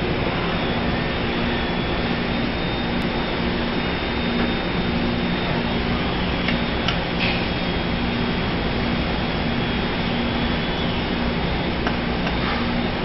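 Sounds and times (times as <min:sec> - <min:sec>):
faint high whine: 0:00.0 - 0:13.0
low hum: 0:00.0 - 0:13.0
machinery drone: 0:00.0 - 0:13.0.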